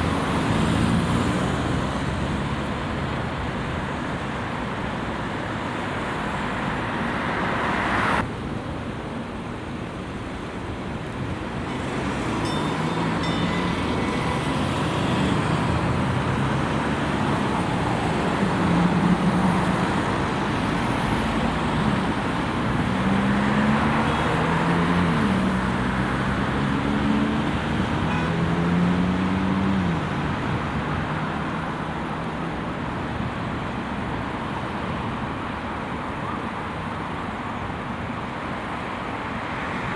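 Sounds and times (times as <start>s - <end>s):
vehicle engine accelerating and shifting: 0.0s - 8.3s, 11.4s - 36.0s
road traffic noise: 0.0s - 39.9s.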